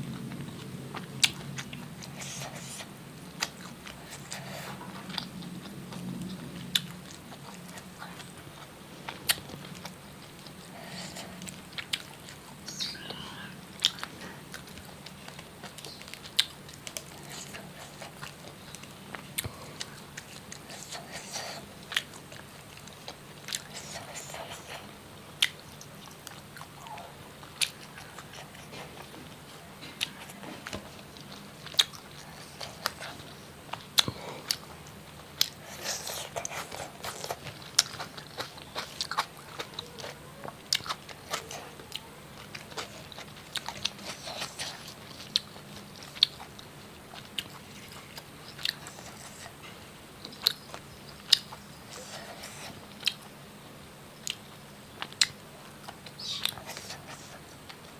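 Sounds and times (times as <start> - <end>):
crunching and chewing food: 0.0 - 57.9.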